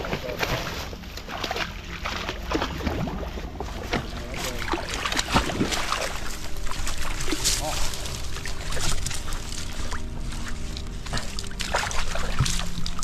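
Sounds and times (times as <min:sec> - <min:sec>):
dog splashing through water: 0:00.0 - 0:13.0.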